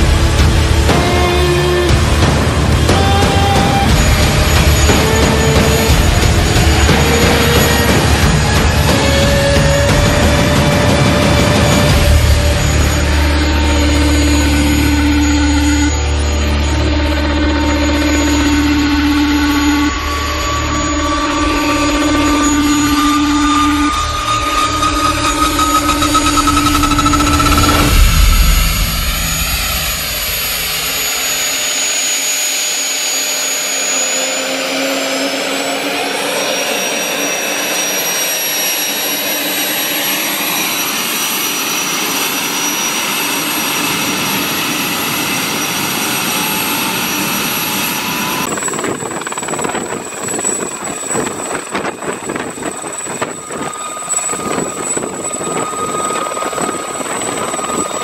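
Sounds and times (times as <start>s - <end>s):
choppy helicopter rotor: 0.0s - 58.0s
helicopter turbine whine: 0.0s - 58.0s.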